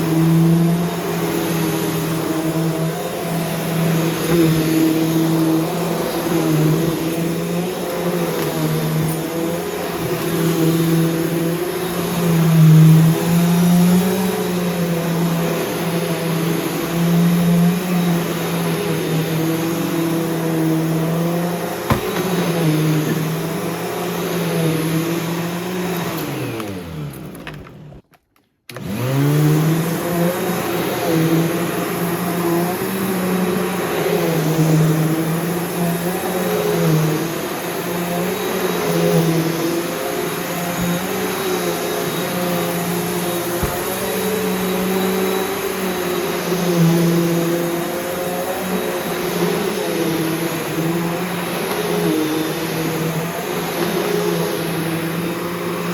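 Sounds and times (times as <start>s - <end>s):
vacuum cleaner motor running: 0.0s - 55.9s.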